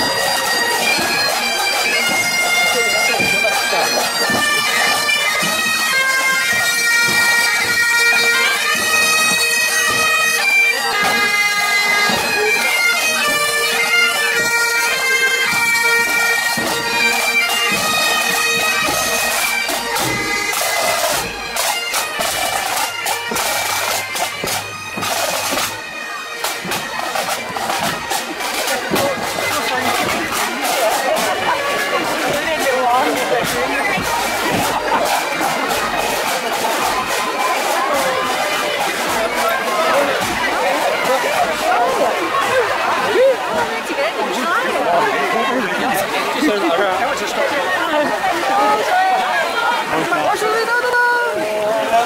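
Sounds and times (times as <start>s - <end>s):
bagpipe band playing march: 0.0s - 52.0s.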